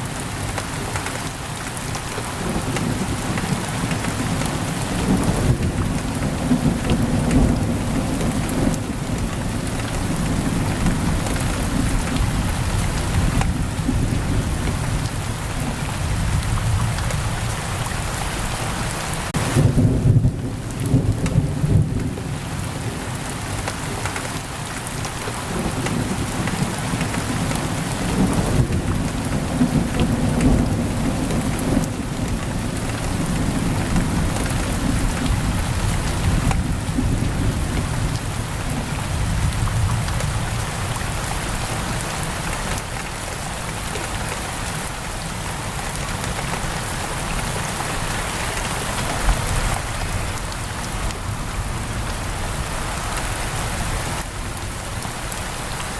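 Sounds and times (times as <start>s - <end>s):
heavy rain on a window: 0.0s - 55.9s.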